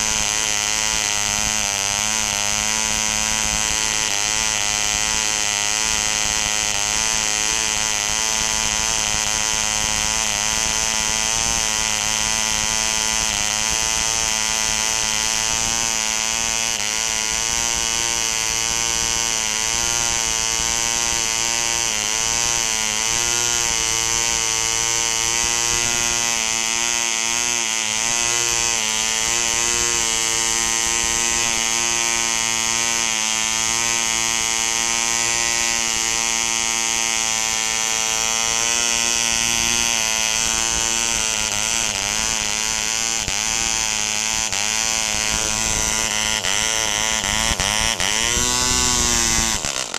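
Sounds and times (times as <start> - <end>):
model engine running: 0.0 - 49.9.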